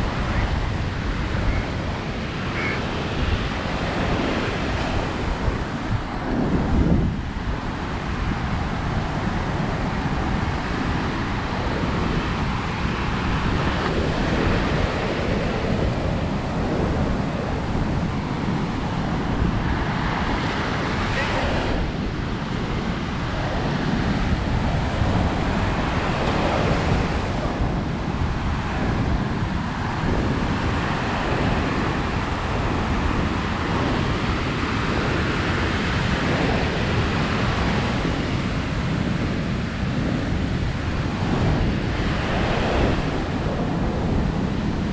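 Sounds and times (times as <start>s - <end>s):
ocean surf breaking on beach: 0.0s - 44.9s
wind buffeting microphone: 0.0s - 44.9s.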